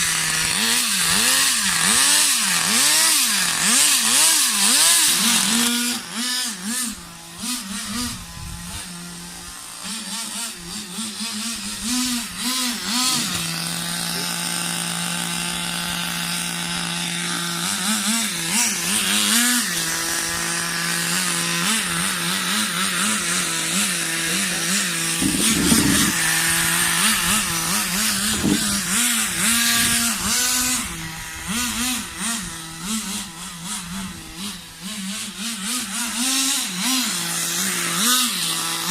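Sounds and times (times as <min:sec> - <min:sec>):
small nitro engine revving: 0:00.0 - 0:38.9.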